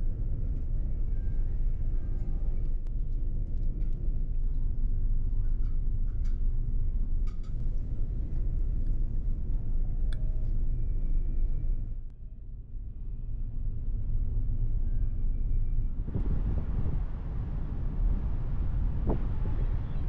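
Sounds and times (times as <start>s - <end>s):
ferry engine rumble: 0.0s - 20.0s.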